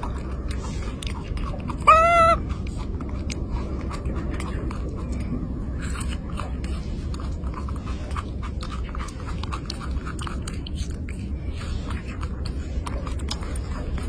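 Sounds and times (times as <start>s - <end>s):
pet chewing with crunching clicks: 0.0s - 14.0s.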